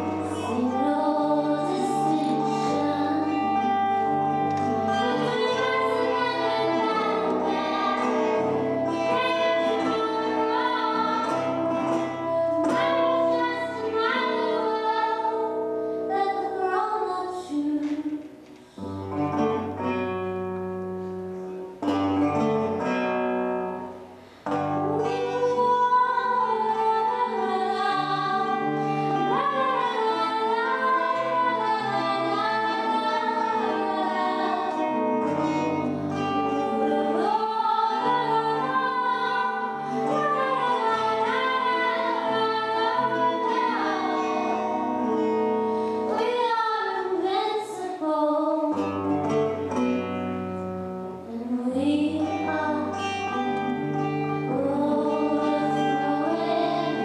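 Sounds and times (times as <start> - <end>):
woman singing: 0.0 - 19.2, 24.7 - 49.4, 51.3 - 57.0
acoustic guitar chords: 0.0 - 57.0.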